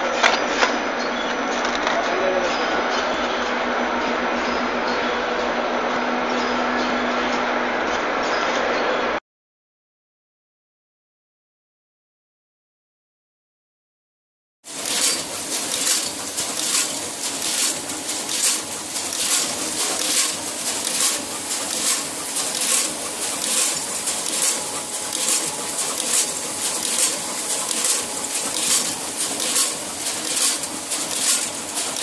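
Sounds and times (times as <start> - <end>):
steady machine noise: 0.0 - 9.2, 14.7 - 32.0.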